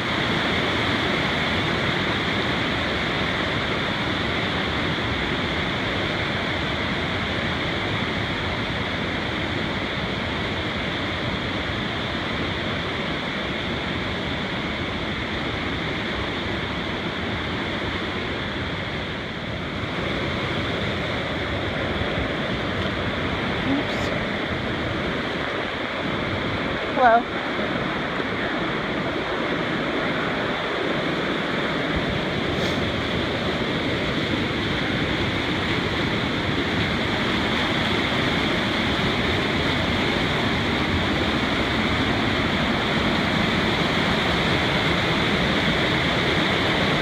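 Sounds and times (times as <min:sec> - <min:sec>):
creek rushing over cascades: 0:00.0 - 0:47.0.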